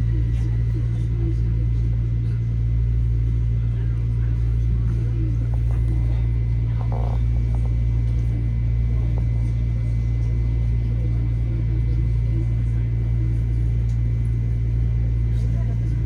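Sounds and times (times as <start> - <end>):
train interior low rumble: 0.0 - 16.0.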